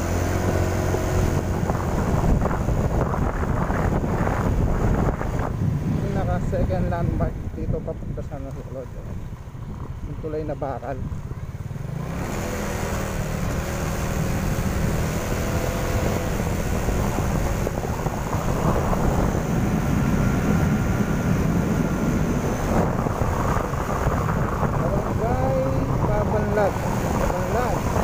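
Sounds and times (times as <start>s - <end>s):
motorcycle engine running: 0.0s - 28.0s
wind rumble on microphone: 0.0s - 28.0s.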